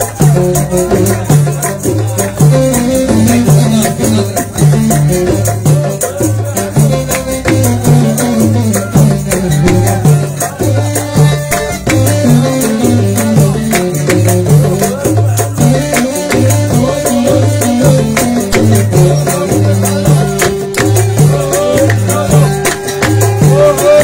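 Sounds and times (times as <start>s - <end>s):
rattling percussion: 0.0s - 24.0s.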